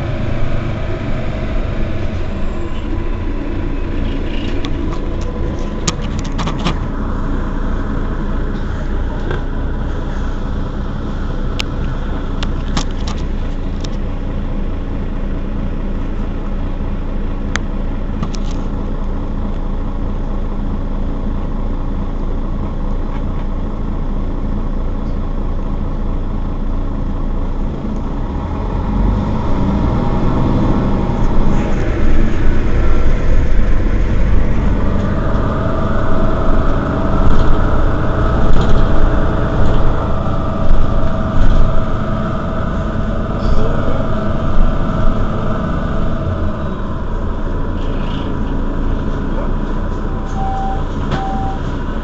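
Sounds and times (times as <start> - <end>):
bus engine rumbling: 0.0 - 52.0.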